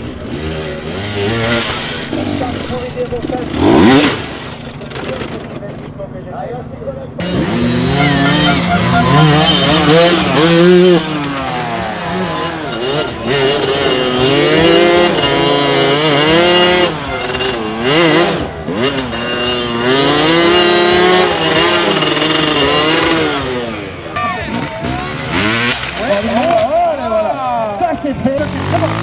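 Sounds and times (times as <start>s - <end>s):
dirt bike engine revving: 0.0s - 6.4s, 7.1s - 29.0s.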